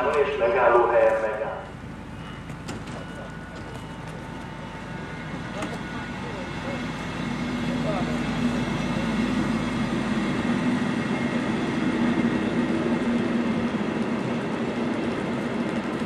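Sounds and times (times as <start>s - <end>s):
train wheels droning on rails: 0.0s - 16.0s.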